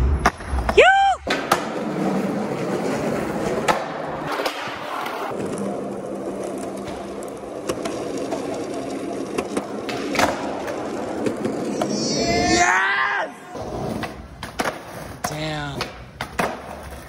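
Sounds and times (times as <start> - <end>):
skateboard wheels rolling on concrete: 0.0 - 17.0
skateboard clacks: 0.1 - 12.0, 13.8 - 17.0.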